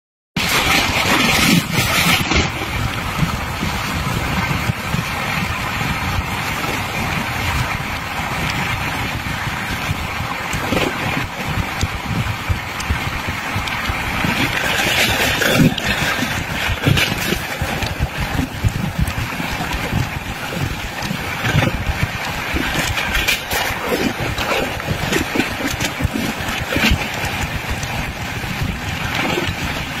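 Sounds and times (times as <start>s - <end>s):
wind rushing across microphone: 0.4s - 30.0s.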